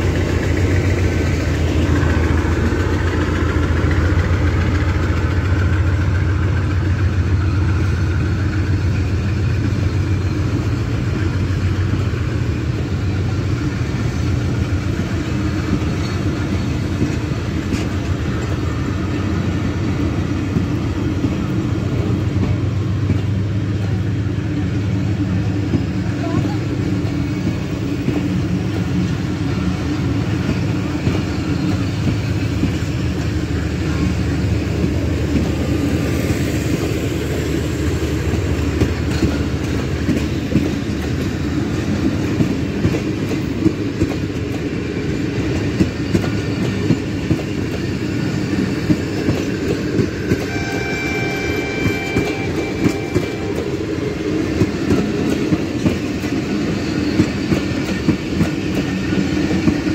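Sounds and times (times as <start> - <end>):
train coaches rumbling past: 0.0 - 59.9.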